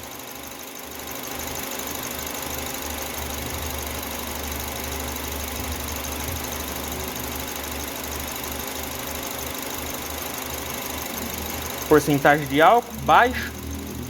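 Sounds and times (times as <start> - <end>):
car engine idling: 0.1 - 14.0
injector ticking: 0.6 - 14.0.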